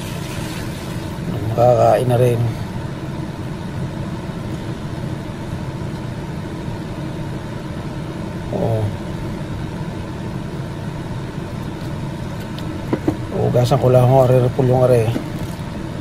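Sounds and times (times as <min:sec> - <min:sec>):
low rumbling hum: 0:00.0 - 0:16.0.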